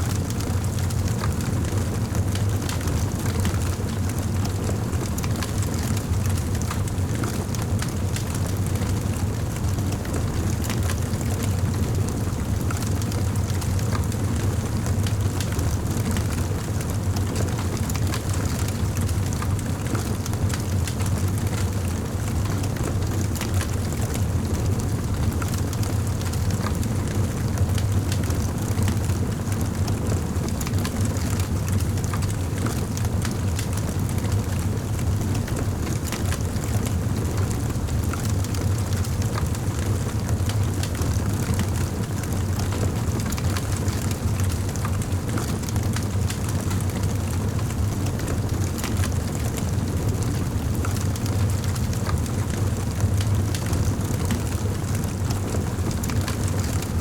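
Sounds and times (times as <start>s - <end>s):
wood fire crackling in fireplace: 0.1s - 57.0s.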